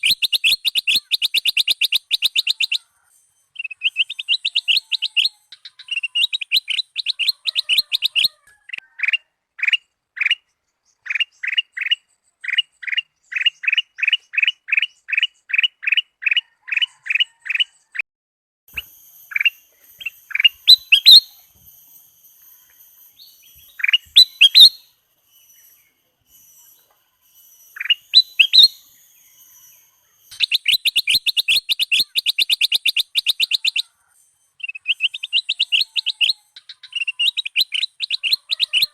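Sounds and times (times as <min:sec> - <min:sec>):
bird singing: 0:00.0 - 0:18.0, 0:18.7 - 0:38.9.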